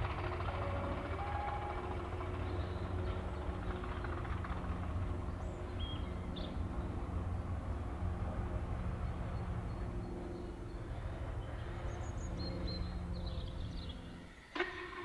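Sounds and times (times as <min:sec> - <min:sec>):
locomotive engine idling: 0:00.0 - 0:15.0.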